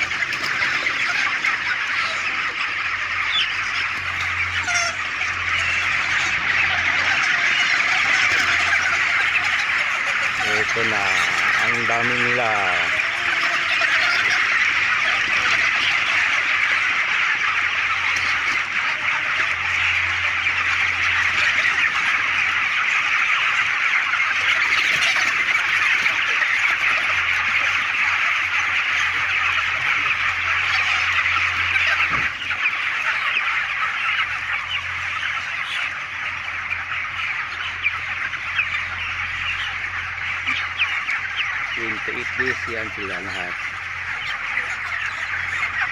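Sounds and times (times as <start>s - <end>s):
chickens peeping and clucking: 0.0s - 45.9s.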